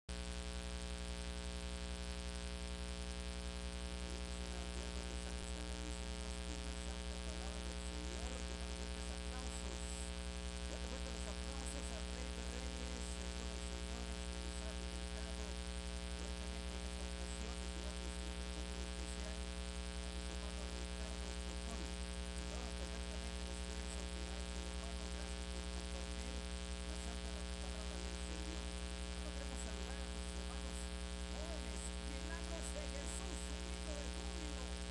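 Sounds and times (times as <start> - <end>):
electrical mains hum: 0.1 - 34.9.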